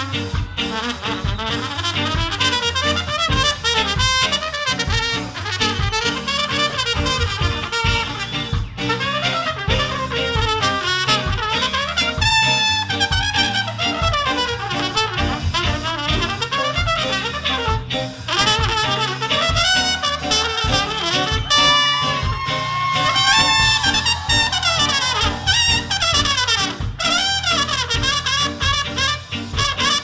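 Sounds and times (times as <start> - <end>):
live ska band playing: 0.0 - 30.0
saxophone: 0.0 - 30.0
trombone: 0.0 - 30.0
trumpet: 0.0 - 30.0.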